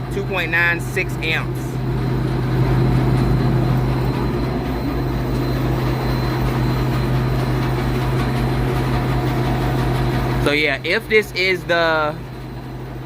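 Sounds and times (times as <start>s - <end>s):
compressor hum: 0.0s - 13.0s
condenser fan motor noise: 0.0s - 13.0s.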